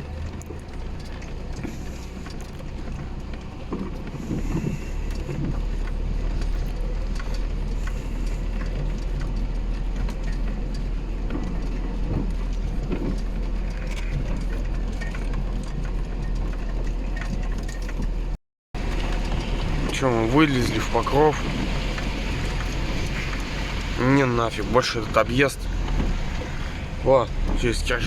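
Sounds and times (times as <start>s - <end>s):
rattles and knocks from bumps: 0.0s - 28.0s
van engine and tyres droning: 0.0s - 28.0s.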